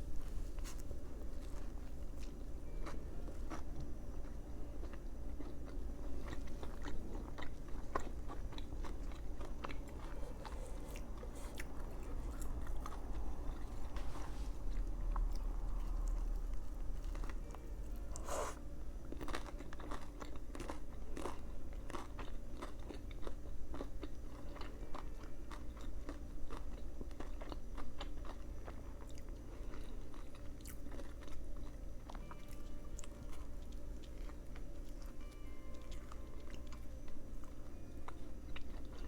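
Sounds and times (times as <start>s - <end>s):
crunchy chewing: 0.0s - 35.2s, 35.8s - 39.0s.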